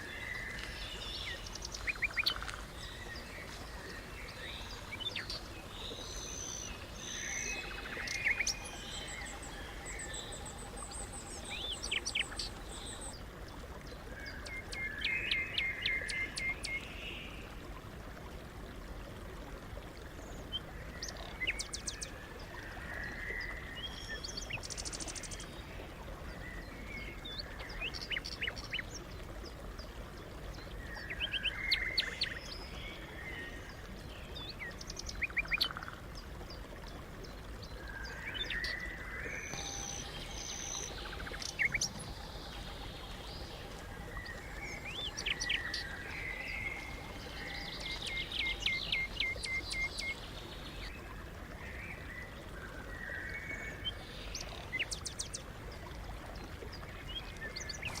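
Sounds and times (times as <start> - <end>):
songbirds singing and chirping: 0.0 - 17.9, 18.6 - 58.0.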